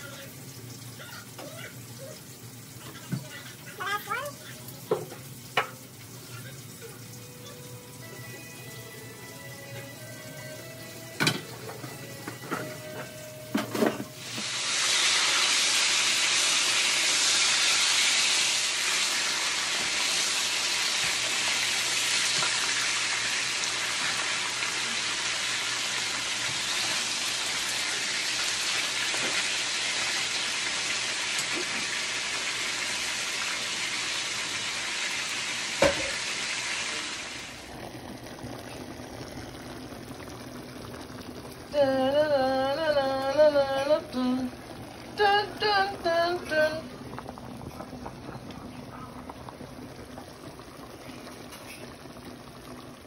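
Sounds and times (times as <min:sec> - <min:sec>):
fish sizzling in oil: 0:00.0 - 0:53.0.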